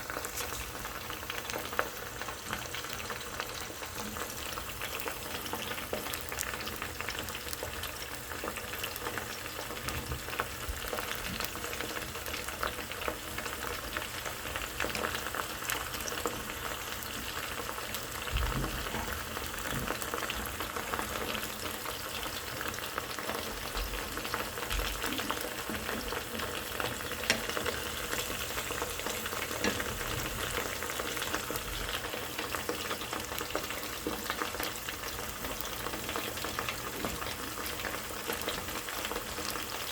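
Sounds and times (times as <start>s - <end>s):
sharp clicks in frying oil: 0.0s - 39.9s
vegetables sizzling in oil: 0.0s - 39.9s.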